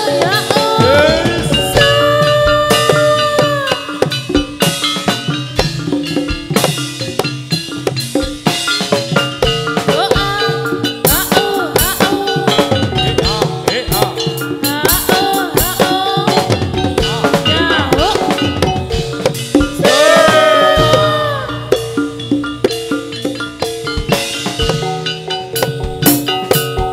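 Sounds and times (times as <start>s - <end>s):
drums beating rapid rhythm: 0.0s - 26.9s
mallet percussion tones: 0.0s - 26.9s.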